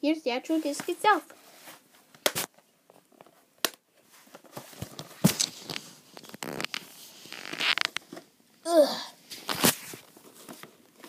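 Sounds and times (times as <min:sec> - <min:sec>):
clothing rustling: 0:00.5 - 0:08.2, 0:09.2 - 0:11.0.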